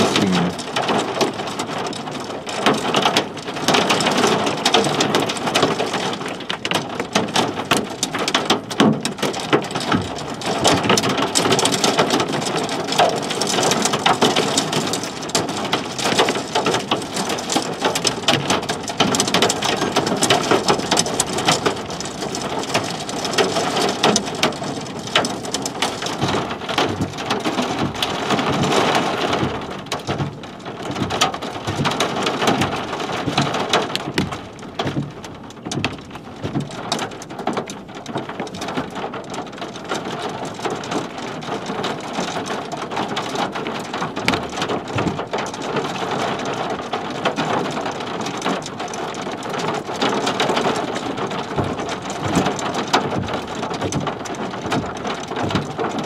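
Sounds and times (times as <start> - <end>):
heavy rain hitting vehicle: 0.0 - 56.0.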